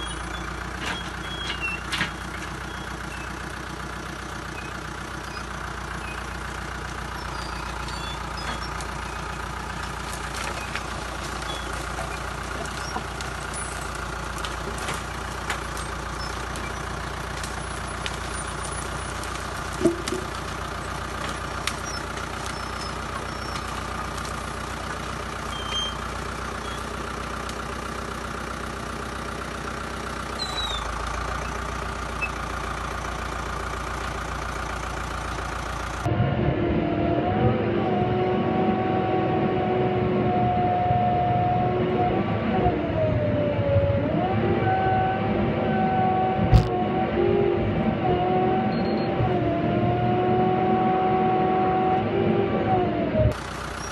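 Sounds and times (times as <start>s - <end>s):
heavy machine engine running: 0.0s - 53.9s.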